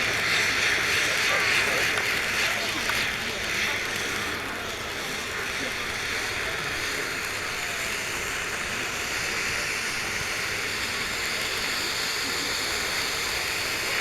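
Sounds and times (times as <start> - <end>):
fountain firework spraying sparks: 0.0 - 14.0.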